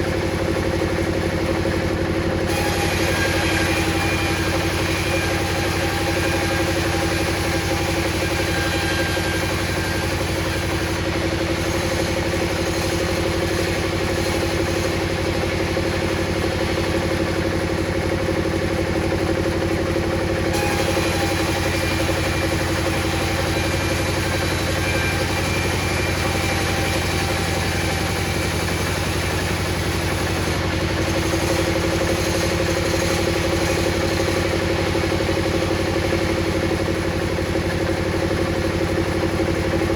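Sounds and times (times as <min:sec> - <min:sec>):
table saw running: 0:00.0 - 0:39.9.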